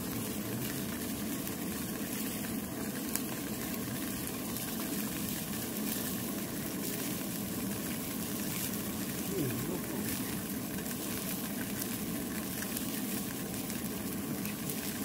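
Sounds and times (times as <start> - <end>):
tofu sizzling in oil: 0.0 - 15.0.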